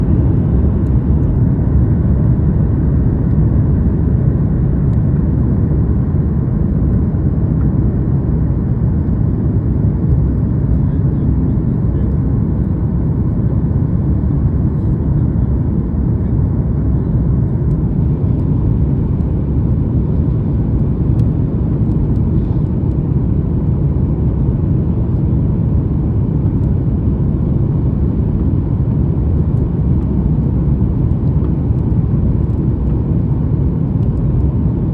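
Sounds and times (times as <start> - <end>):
airliner landing rumble: 0.0 - 34.9.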